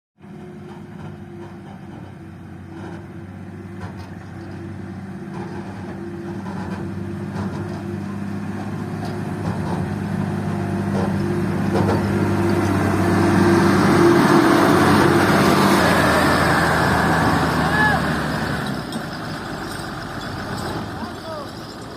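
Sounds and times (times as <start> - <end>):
diesel engine running: 0.2 - 21.9.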